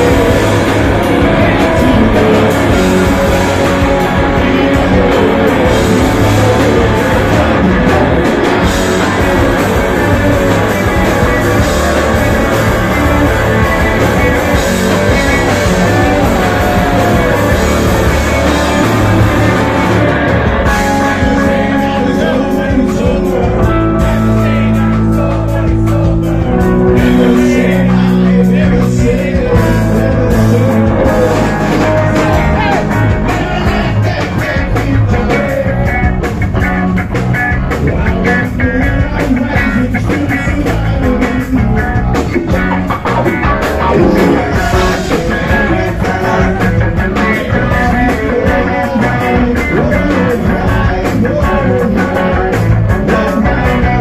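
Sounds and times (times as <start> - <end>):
man singing: 0.0 - 36.3, 37.6 - 54.0
bass guitar: 0.0 - 54.0
distorted electric guitar: 0.0 - 54.0
drums: 0.0 - 54.0.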